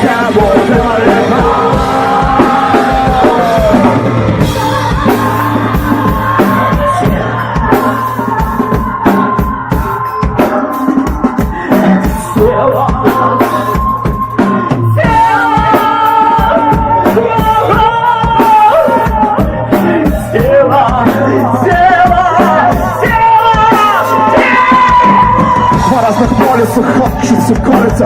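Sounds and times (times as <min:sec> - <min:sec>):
drum kit beat: 0:00.0 - 0:28.0
rock band playing: 0:00.0 - 0:28.0
wavering melodic lead line: 0:00.0 - 0:28.0.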